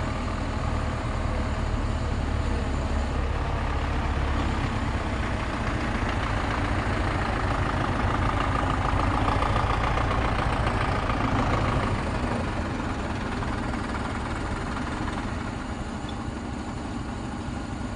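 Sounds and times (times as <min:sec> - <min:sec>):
heavy vehicle engine idling: 0:00.0 - 0:17.9.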